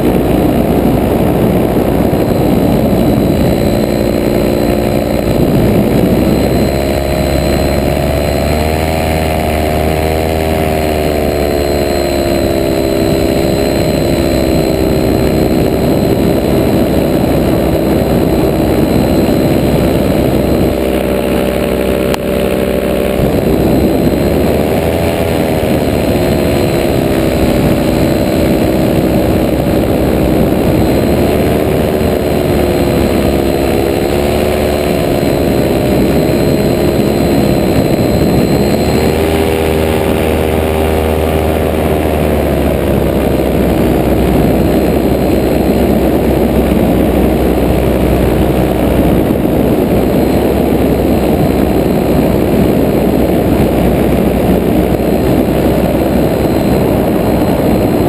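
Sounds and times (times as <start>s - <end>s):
paramotor engine and propeller: 0.0s - 58.0s
rushing air: 0.0s - 58.0s.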